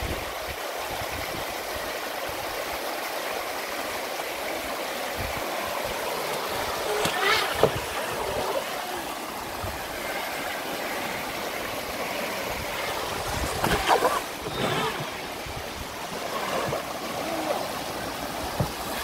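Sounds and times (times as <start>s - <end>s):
river rapids rushing over rocks: 0.0s - 19.0s.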